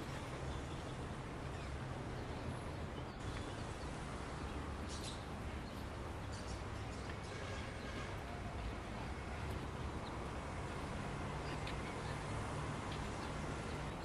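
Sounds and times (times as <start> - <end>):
distant street traffic: 0.0 - 14.0.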